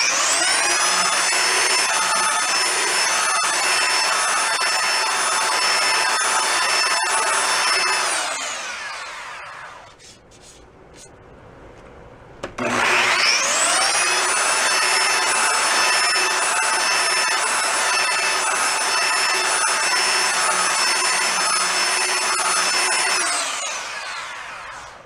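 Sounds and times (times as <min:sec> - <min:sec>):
electric belt sander sanding wood: 0:00.0 - 0:10.1, 0:12.6 - 0:24.9.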